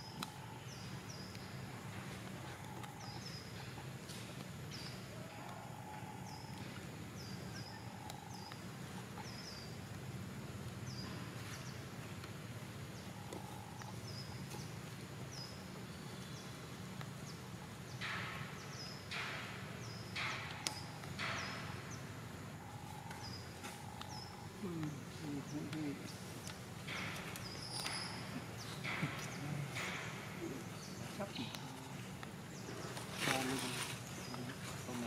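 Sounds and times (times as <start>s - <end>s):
bird chirping: 0.0s - 35.0s.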